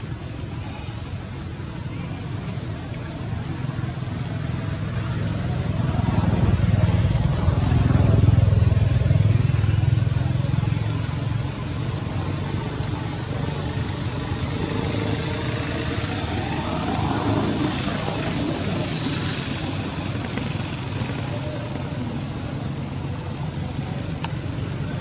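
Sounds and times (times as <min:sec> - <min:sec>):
faint voices: 0:00.0 - 0:25.0
vehicle engine rumble: 0:00.0 - 0:25.0.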